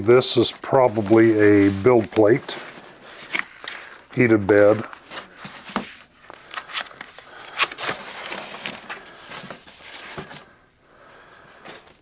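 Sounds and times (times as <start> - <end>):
cardboard and foam rustling: 0.0 - 10.5.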